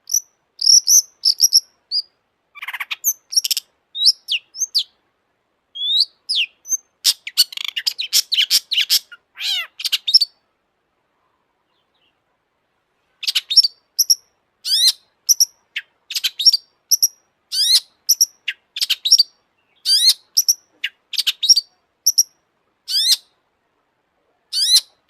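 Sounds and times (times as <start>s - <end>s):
bird singing chirps and harsh notes: 0.0s - 5.0s, 5.8s - 10.4s, 13.2s - 23.4s, 24.5s - 25.0s.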